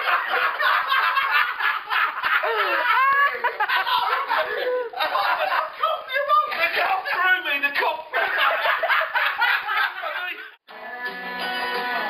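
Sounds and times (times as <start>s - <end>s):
people laughing loudly: 0.0s - 7.0s, 7.8s - 10.6s.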